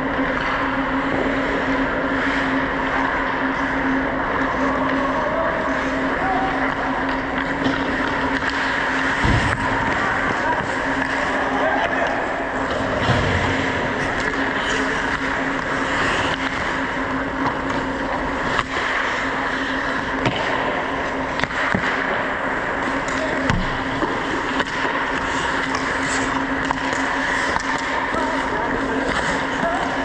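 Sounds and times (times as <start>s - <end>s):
steady low hum: 0.0s - 30.0s
skates scraping on ice: 4.5s - 30.0s.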